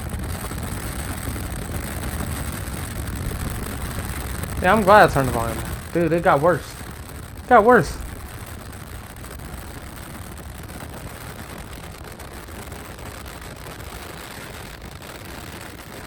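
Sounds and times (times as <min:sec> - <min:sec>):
wind rushing through car window: 0:00.0 - 0:16.0.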